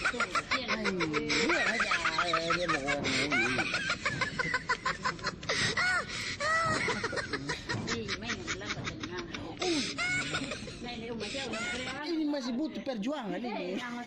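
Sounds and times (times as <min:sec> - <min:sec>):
people laughing: 0:00.0 - 0:12.7.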